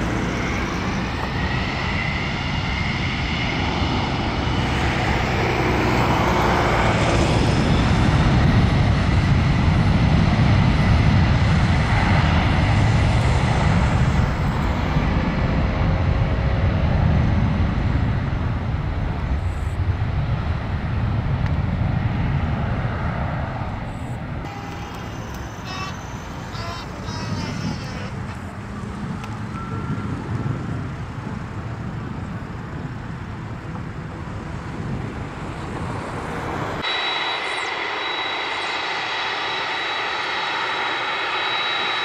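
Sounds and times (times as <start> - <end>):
jet engines at takeoff thrust: 0.0 - 42.0.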